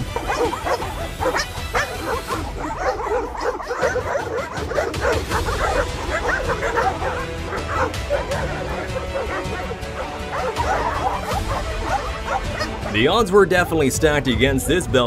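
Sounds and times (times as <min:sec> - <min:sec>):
dogs barking and yipping: 0:00.0 - 0:13.4.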